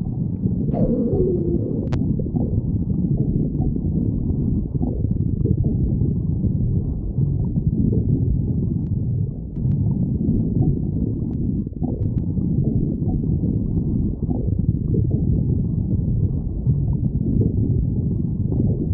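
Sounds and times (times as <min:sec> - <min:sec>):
stomach growling: 0:00.0 - 0:09.0, 0:09.6 - 0:18.9.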